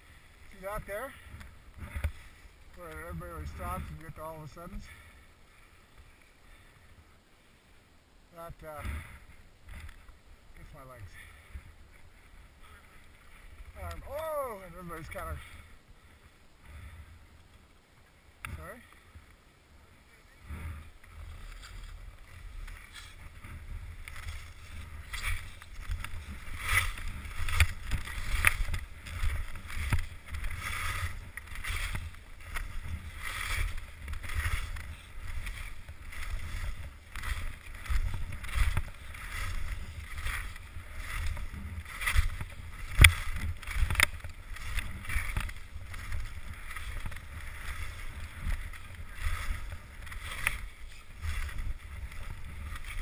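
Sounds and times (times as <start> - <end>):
skis scraping over packed snow: 0.0 - 53.0
wind rumbling on microphone: 8.6 - 53.0.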